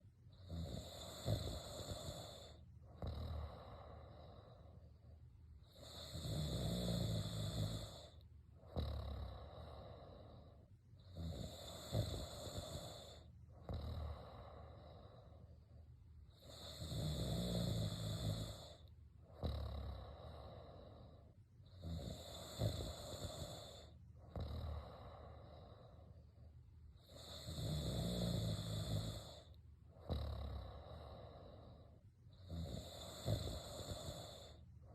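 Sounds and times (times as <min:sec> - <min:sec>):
person snoring: 0:00.4 - 0:04.8, 0:05.7 - 0:15.5, 0:16.3 - 0:26.2, 0:27.0 - 0:34.6.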